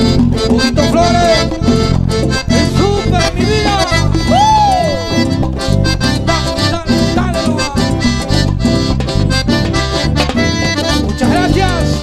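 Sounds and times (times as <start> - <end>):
accordion: 0.0 - 12.0
bass: 0.0 - 12.0
percussion dance beat: 0.0 - 12.0.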